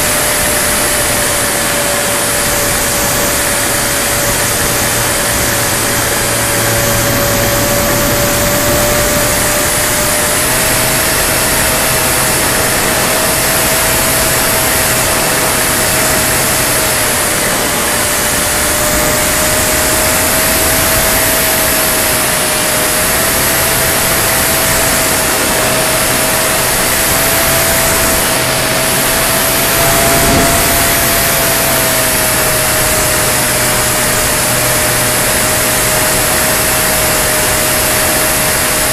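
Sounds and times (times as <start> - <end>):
model aircraft motor tone: 0.0 - 38.9
wind rush on microphone: 0.0 - 38.9.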